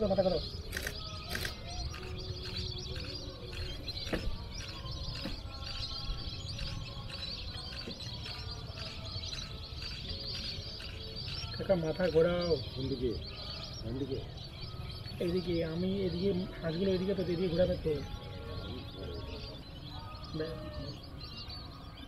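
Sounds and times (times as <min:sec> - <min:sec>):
birds chirping and calling: 0:00.0 - 0:22.0.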